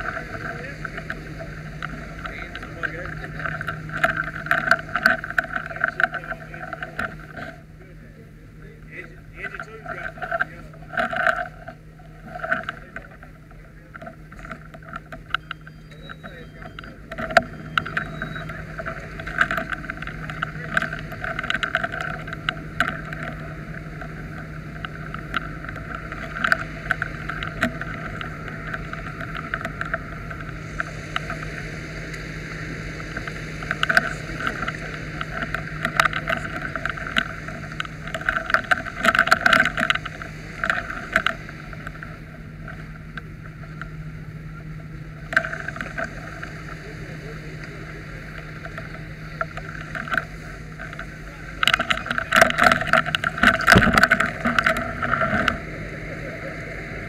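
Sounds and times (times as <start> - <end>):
fire engine humming: 0.0 - 57.0
gear rustling against camera: 0.0 - 57.0.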